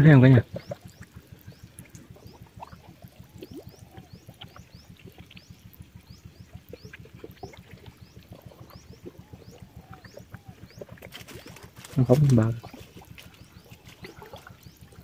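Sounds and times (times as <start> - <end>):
night chorus of rising chirps: 0.0 - 12.0, 12.6 - 15.0
water trickling and dripping: 0.0 - 15.0.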